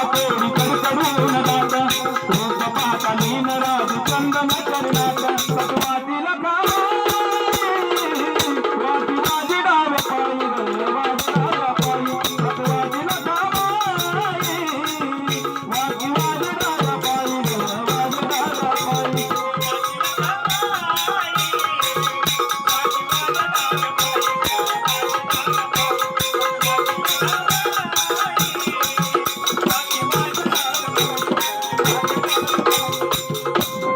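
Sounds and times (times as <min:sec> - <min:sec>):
instrumental folk music: 0:00.0 - 0:06.0, 0:06.7 - 0:33.9
rattle-like percussion: 0:00.0 - 0:06.0, 0:06.6 - 0:33.9.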